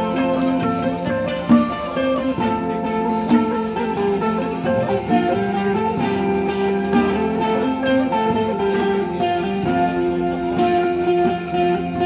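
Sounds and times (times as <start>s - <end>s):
plucked string ensemble: 0.0s - 12.0s.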